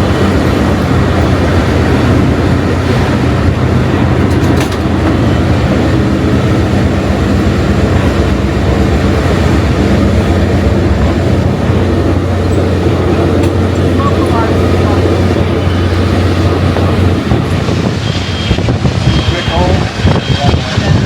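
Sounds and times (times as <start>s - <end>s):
moving train rumble: 0.0s - 21.0s.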